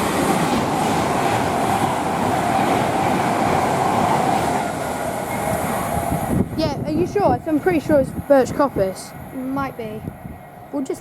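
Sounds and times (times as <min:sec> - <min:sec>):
train wagons rumbling and clattering: 0:00.0 - 0:11.0.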